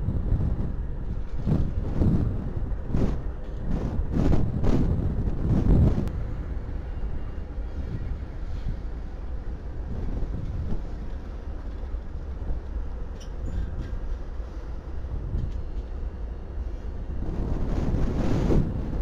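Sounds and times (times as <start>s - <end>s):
diesel locomotives rumbling: 0.0s - 19.0s.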